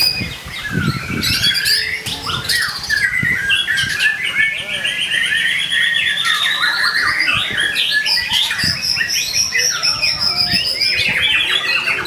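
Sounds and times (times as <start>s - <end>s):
songbird whistles and trills: 0.0s - 12.0s.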